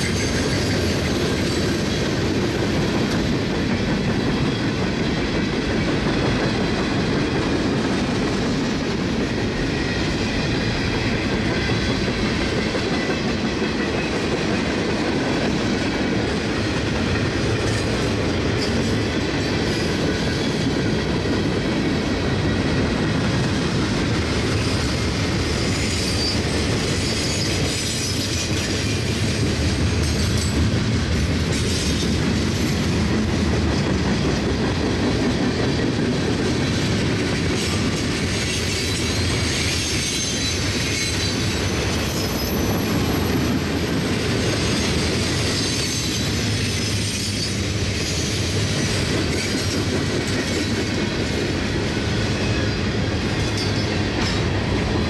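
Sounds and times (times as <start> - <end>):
freight cars rumbling on rails: 0.0 - 55.0.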